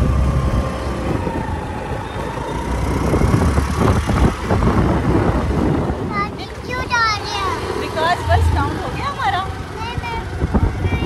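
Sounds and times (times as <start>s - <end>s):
scooter road noise: 0.0s - 11.0s
wind buffeting microphone: 0.0s - 11.0s.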